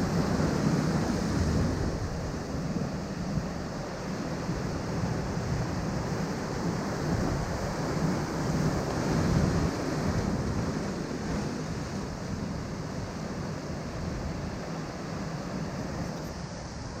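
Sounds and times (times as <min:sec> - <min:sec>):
ocean surf washing over rocks: 0:00.0 - 0:17.0.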